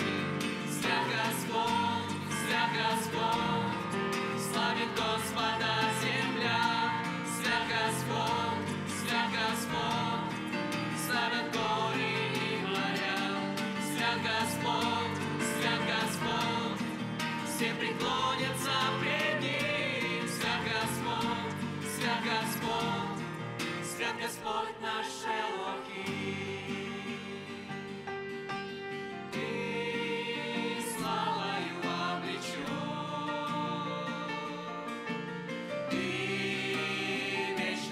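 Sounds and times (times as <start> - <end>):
worship song with voices and band: 0.0 - 37.9.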